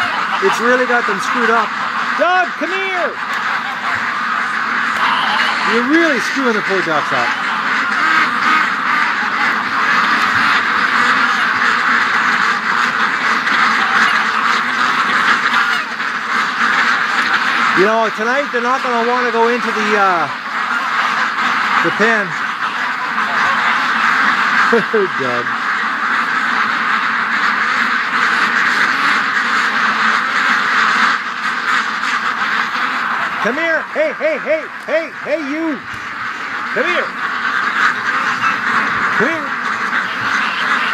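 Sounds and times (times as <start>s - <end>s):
flock of ducks quacking: 0.0s - 40.9s.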